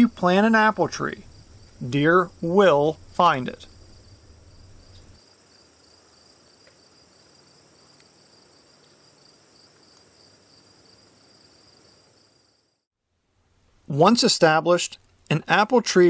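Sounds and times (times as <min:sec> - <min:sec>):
high insect trill: 0:00.0 - 0:12.9
lower pulsing insect trill: 0:00.0 - 0:12.9.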